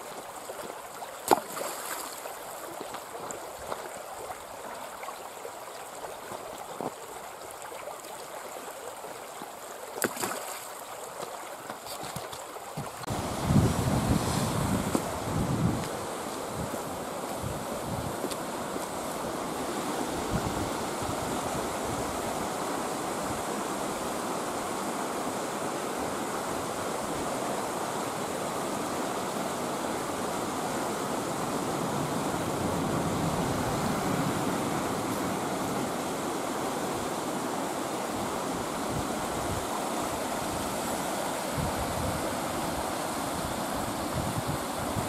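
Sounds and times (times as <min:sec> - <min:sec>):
stream rushing over rocks: 0:00.0 - 0:45.0.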